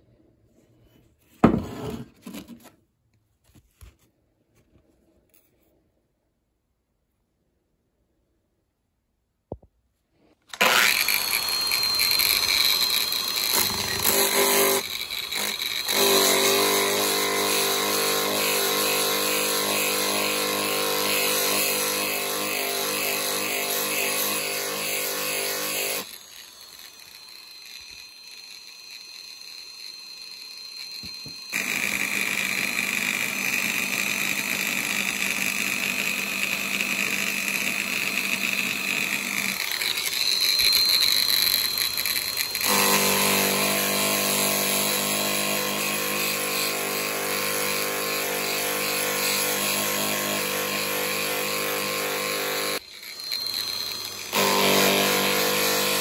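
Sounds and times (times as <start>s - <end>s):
angle grinder whining: 10.5s - 56.0s.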